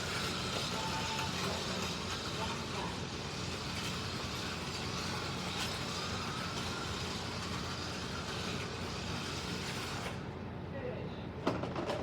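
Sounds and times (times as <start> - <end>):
electric motors whining: 0.0 - 10.3.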